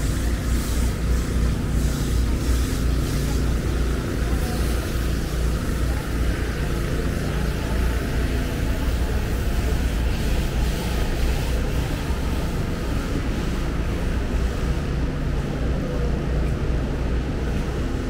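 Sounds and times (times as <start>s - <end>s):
road noise: 0.0s - 18.0s
vehicle engines rumbling: 0.0s - 18.0s.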